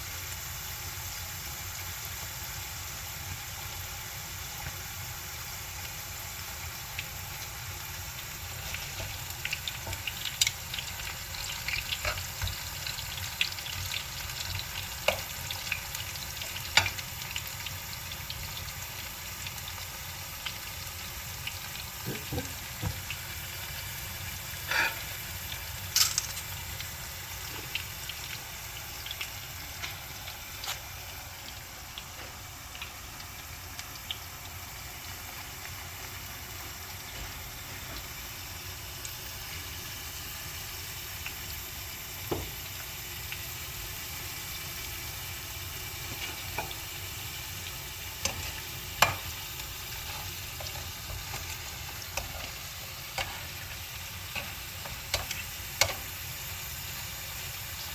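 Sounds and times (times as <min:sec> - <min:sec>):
food sizzling in a pan: 0:00.0 - 0:57.9.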